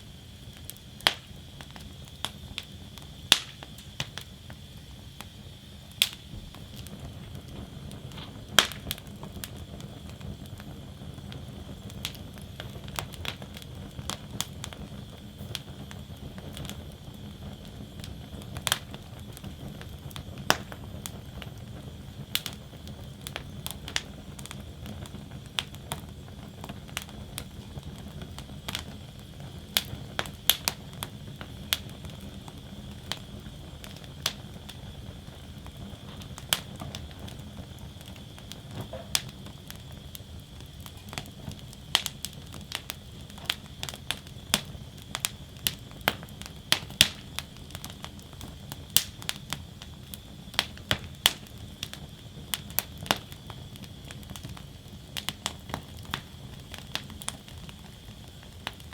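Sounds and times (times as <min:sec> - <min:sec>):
burning wood crackling and popping: 0:00.0 - 0:58.9
low rush of flames: 0:00.0 - 0:58.9.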